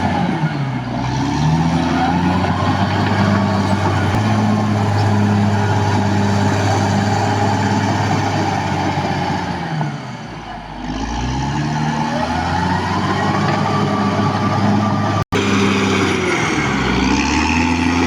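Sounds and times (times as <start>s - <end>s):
bulldozer diesel engine running hard: 0.0s - 18.0s.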